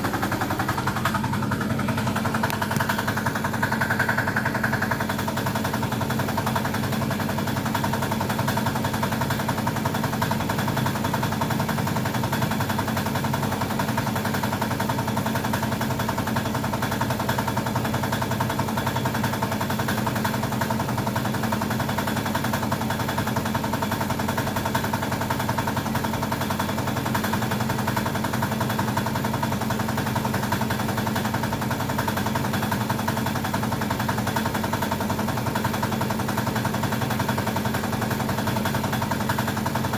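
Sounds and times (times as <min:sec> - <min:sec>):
small motor rattling: 0:00.0 - 0:39.9.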